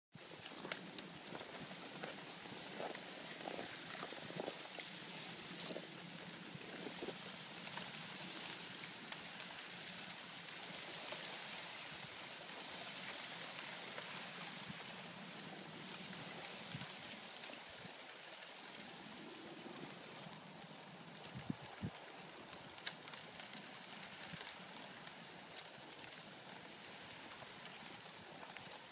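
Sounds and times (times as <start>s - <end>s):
ice ticking and crackling: 0.2s - 28.9s
water washing among icy rocks: 0.2s - 28.9s.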